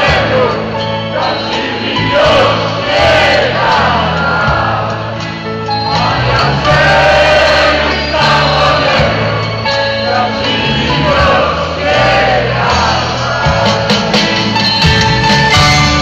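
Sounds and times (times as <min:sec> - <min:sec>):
men singing together: 0:00.0 - 0:05.2, 0:05.8 - 0:14.1
bass line: 0:00.0 - 0:16.0
drums: 0:00.0 - 0:16.0.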